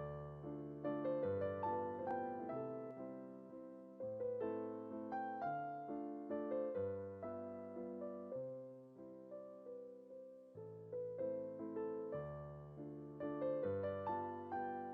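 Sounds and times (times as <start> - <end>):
gentle piano melody: 0.0 - 14.9.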